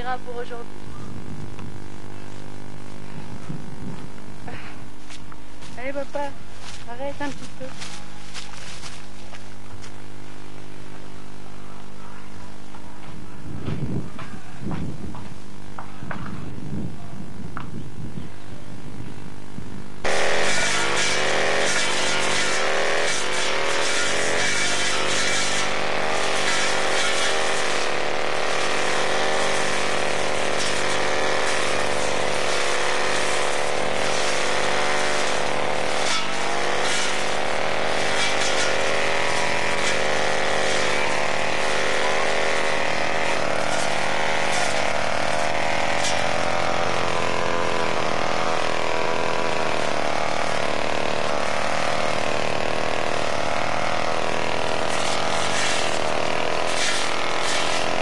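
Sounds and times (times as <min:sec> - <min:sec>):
brushcutter cutting grass: 0:00.0 - 0:58.0.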